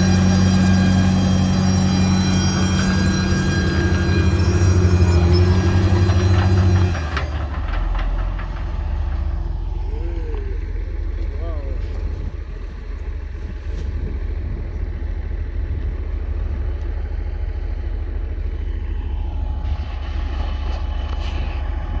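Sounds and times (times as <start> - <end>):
diesel machinery engine rumbling: 0.0 - 22.0
faint whine: 0.0 - 22.0.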